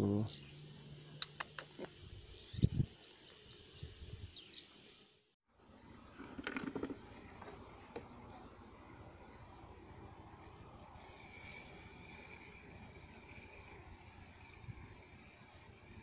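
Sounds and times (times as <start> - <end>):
high-pitched insect chorus: 0.0 - 16.0
thin insect tone: 0.0 - 16.0.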